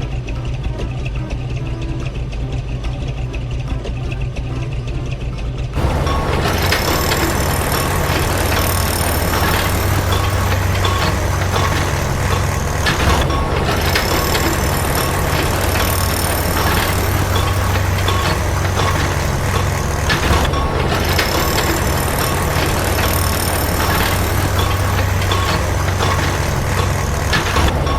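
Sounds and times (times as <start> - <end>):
truck engine humming: 0.0 - 27.9.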